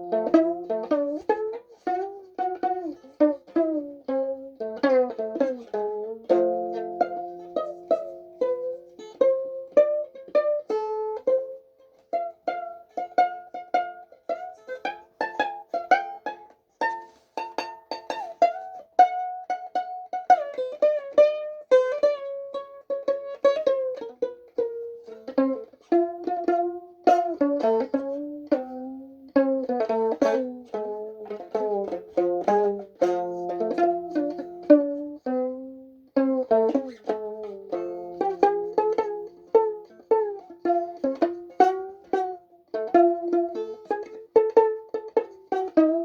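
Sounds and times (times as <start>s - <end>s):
violin plucked pizzicato melody: 0.0s - 46.0s.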